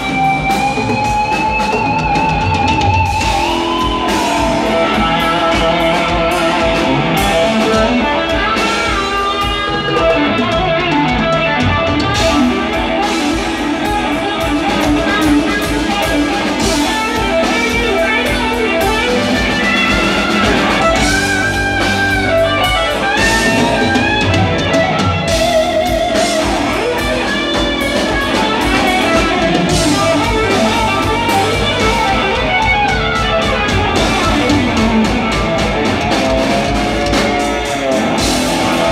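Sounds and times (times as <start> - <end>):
electric guitar lead with bends: 0.0 - 38.9
live rock band playing: 0.0 - 38.9.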